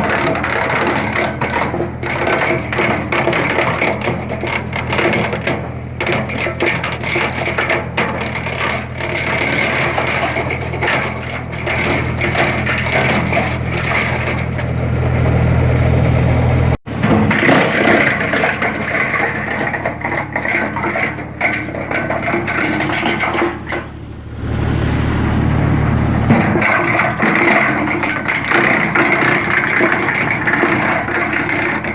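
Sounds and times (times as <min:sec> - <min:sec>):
tractor engine running: 0:00.0 - 0:31.9
wood chipper cracking branches: 0:00.0 - 0:31.9.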